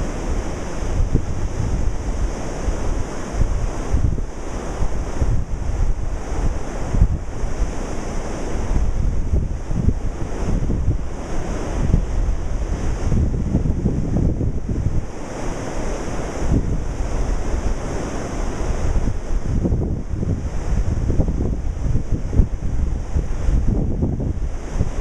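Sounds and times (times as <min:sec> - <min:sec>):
ocean surf washing: 0:00.0 - 0:25.0
wind buffeting microphone: 0:00.0 - 0:25.0.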